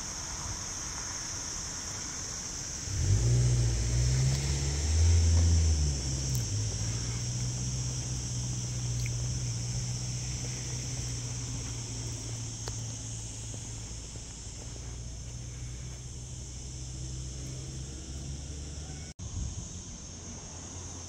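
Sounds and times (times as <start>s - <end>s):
insects chirring: 0.0s - 21.0s
vehicle engine humming: 0.0s - 21.0s.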